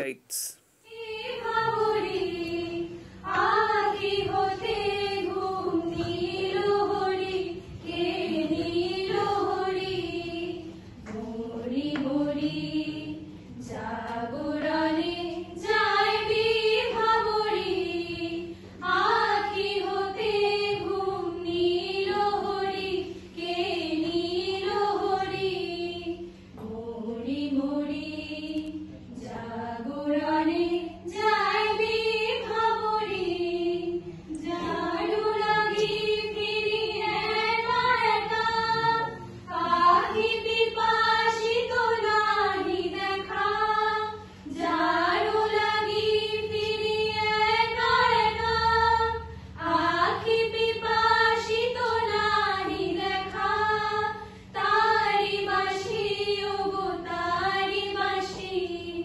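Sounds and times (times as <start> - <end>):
women singing together: 0.8 - 59.0.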